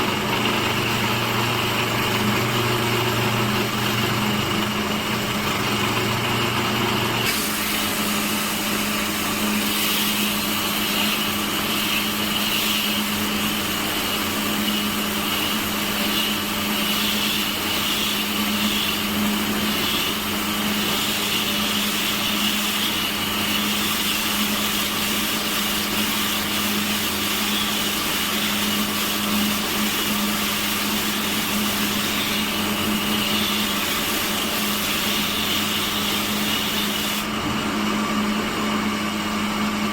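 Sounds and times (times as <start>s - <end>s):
woodworking machine humming and whining: 0.0s - 39.9s.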